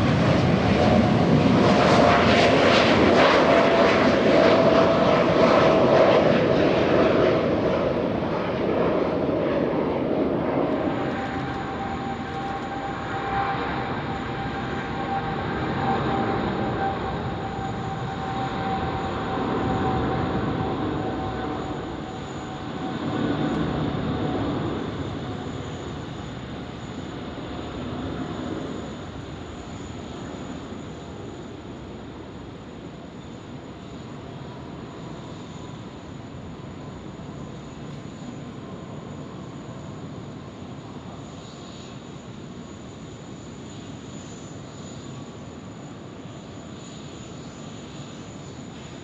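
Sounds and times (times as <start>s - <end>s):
jet engines passing: 0.0s - 49.0s.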